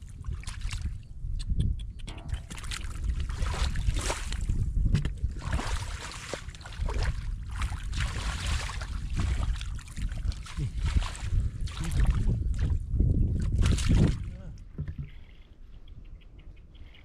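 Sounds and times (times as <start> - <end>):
water splashing and sloshing: 0.0 - 1.0, 2.1 - 15.8
wind rumbling on microphone: 0.0 - 17.0.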